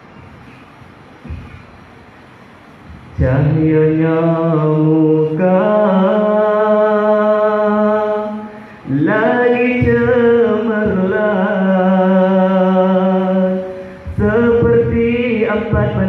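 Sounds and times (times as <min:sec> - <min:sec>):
man chanting melodically: 0:03.1 - 0:16.0.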